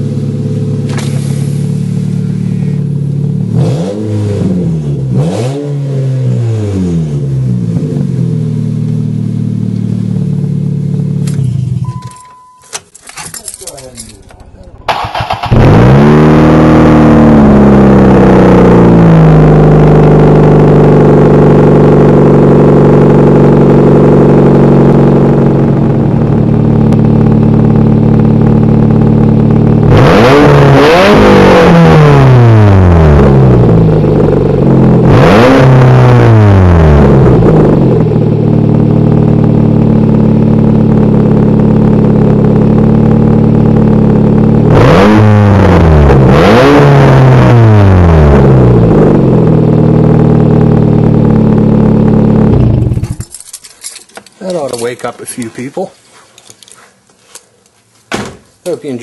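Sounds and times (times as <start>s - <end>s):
car engine revving without exhaust: 0.0s - 12.2s, 14.2s - 54.1s.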